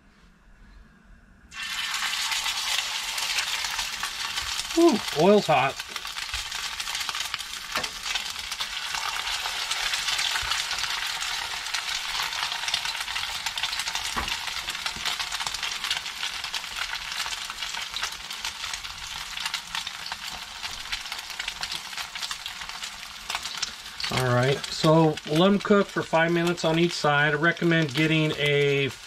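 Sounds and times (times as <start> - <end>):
crab cakes sizzling in hot oil: 1.5 - 29.0.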